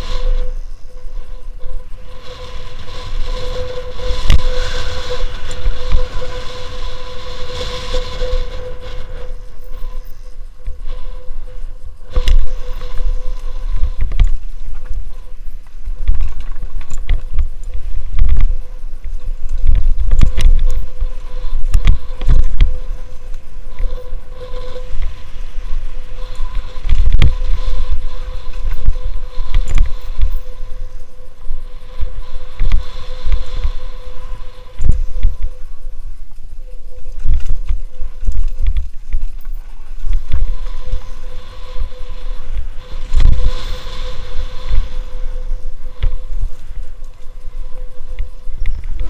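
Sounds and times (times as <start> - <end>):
faint steady whine: 0.0 - 49.0
wind noise on microphone: 0.0 - 49.0.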